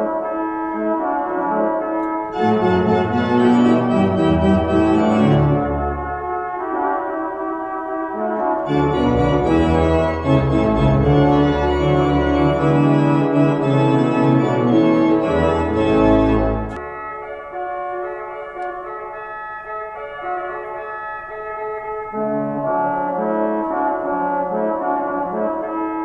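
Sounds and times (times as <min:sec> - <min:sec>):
organ chords: 0:00.0 - 0:26.0.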